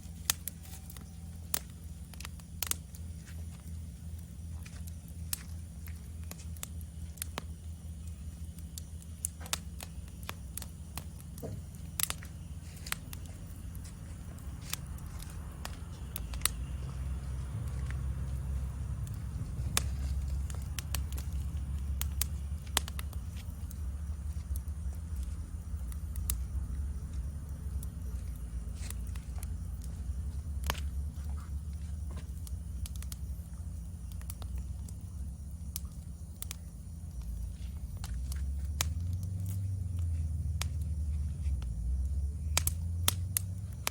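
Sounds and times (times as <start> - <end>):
insect chorus: 0.0 - 43.9
low steady rumble: 0.0 - 43.9
wood fire crackling and popping: 0.0 - 43.9.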